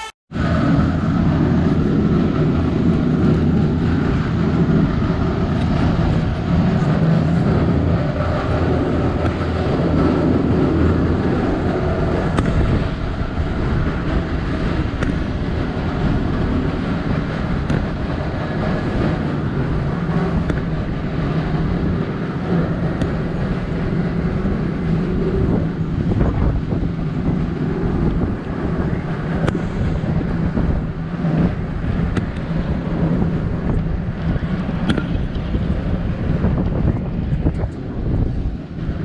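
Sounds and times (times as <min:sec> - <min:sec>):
machinery rumbling: 0:00.0 - 0:39.0
wind buffeting microphone: 0:00.3 - 0:39.0.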